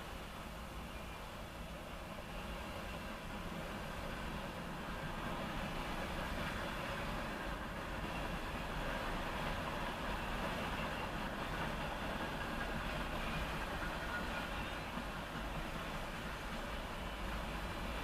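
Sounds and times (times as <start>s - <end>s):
freight train cars rolling past: 0.0s - 18.0s.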